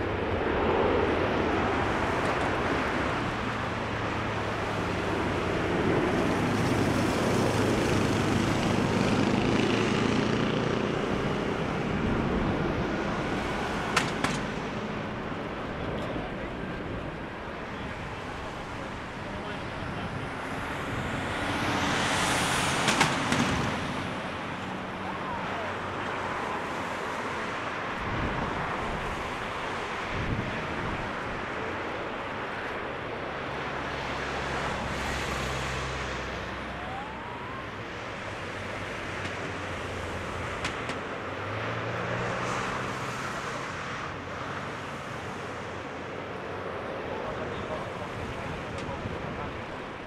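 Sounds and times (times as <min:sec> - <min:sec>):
jet engine roar: 0:00.0 - 0:50.0.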